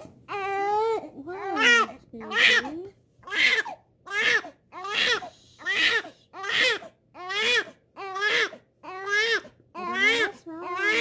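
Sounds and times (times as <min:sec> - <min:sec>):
infant crying: 0:00.0 - 0:11.0.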